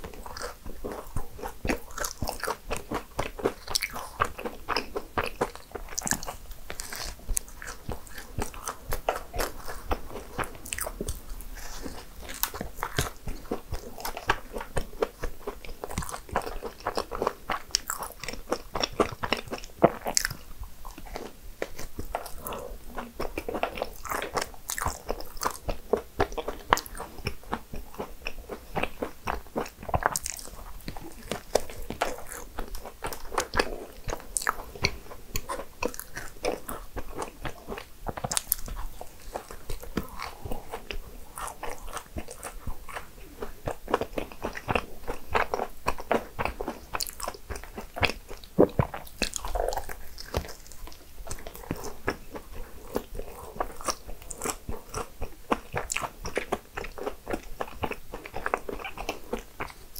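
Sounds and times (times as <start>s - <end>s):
person crunching desserts: 0.0s - 59.9s.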